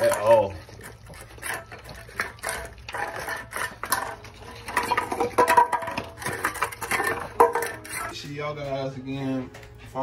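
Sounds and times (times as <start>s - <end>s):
dog chewing and lapping: 0.0s - 8.2s
metal bowl clinking: 0.0s - 8.4s.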